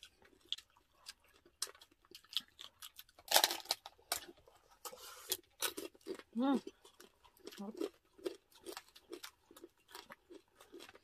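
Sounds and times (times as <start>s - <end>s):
chewing and crunching: 0.0s - 11.0s.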